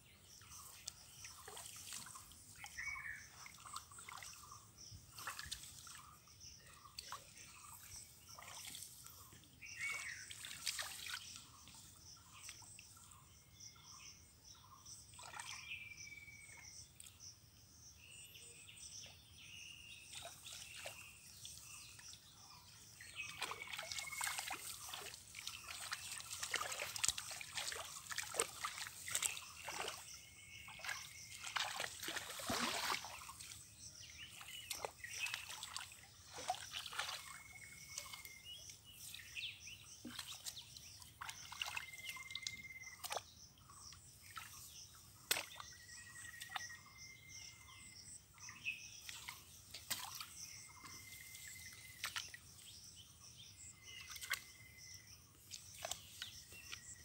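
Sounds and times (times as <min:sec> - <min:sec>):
muddy water splashing: 0:00.2 - 0:13.2, 0:15.1 - 0:17.2, 0:19.8 - 0:57.0.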